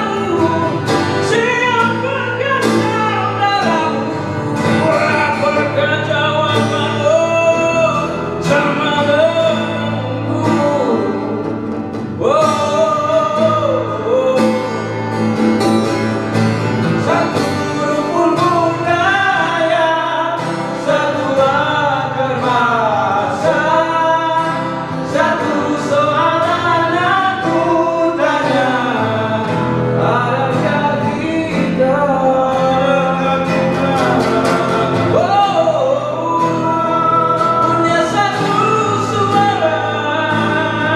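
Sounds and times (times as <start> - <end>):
acoustic guitars strummed: 0.0 - 40.9
man singing: 0.0 - 40.9.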